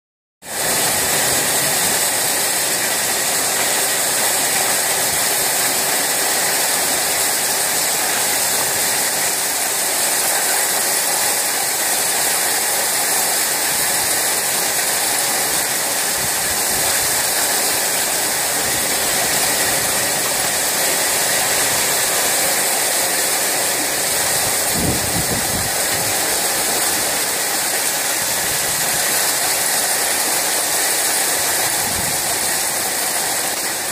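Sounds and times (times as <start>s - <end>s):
heavy rain on metal roof: 0.4s - 33.9s.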